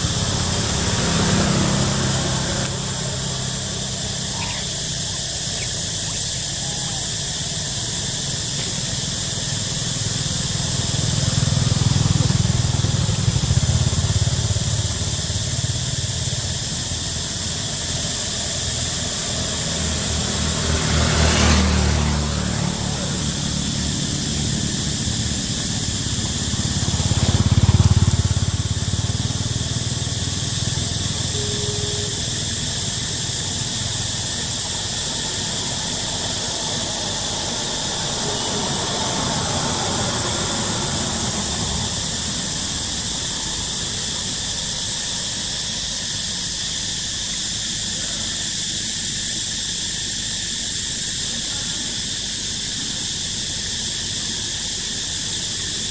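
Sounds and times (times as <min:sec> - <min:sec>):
insects droning: 0:00.0 - 0:55.9
motorbike engines passing: 0:00.0 - 0:55.9.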